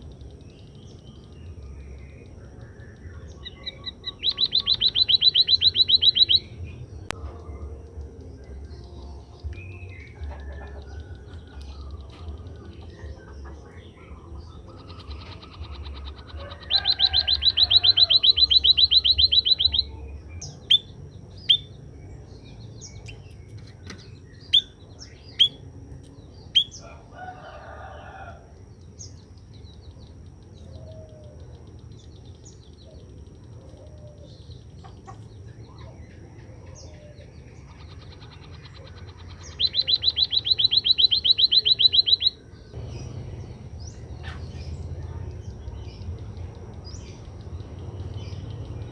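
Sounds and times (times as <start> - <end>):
cage birds trilling and chirping: 0.0 - 48.9.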